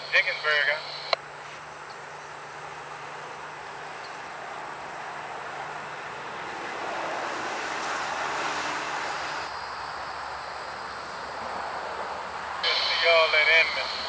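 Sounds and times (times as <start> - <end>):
rushing noise of train: 0.0 - 1.1, 3.7 - 14.0
locomotive engine hum: 0.0 - 6.8, 8.5 - 14.0.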